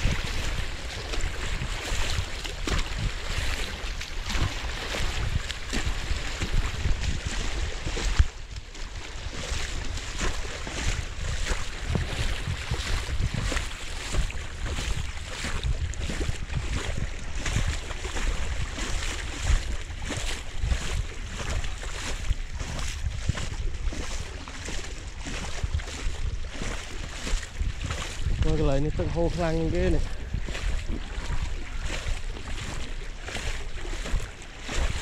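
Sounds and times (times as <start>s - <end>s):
floodwater rushing: 0.0s - 35.0s
wind buffeting microphone: 0.0s - 35.0s.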